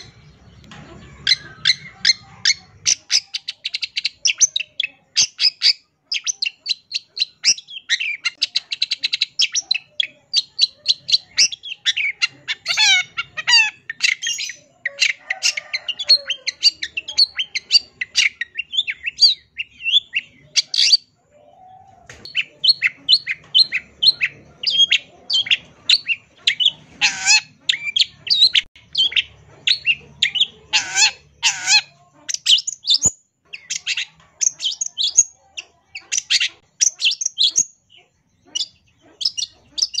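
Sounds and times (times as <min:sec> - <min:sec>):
bird chattering song: 0:00.0 - 0:40.0.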